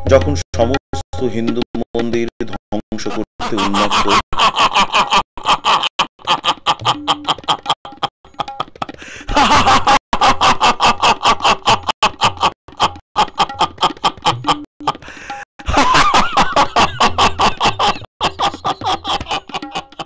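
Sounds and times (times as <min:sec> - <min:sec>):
man laughing frenziedly: 0:02.9 - 0:20.0.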